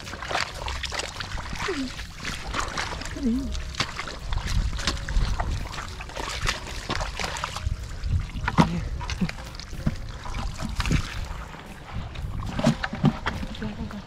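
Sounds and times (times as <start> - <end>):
squelching in water and mud: 0.0 - 14.0.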